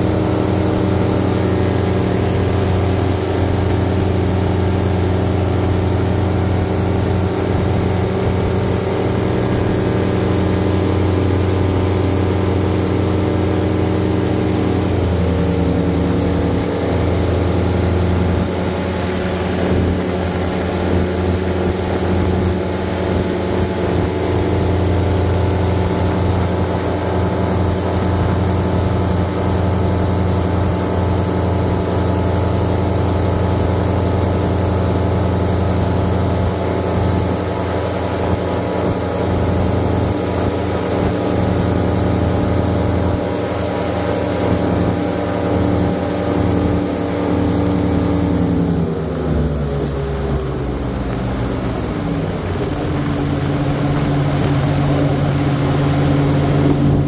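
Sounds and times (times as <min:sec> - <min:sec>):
airboat engine and propeller drone: 0:00.0 - 0:57.0.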